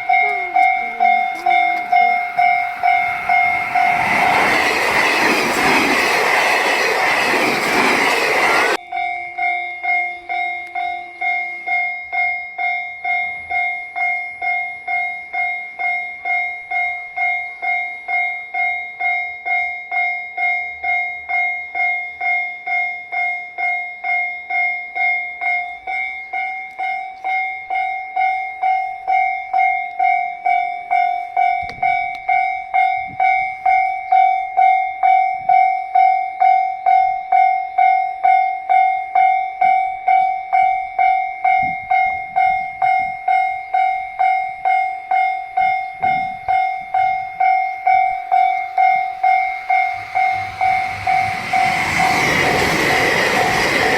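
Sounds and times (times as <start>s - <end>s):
level-crossing warning bell: 0.0s - 53.9s.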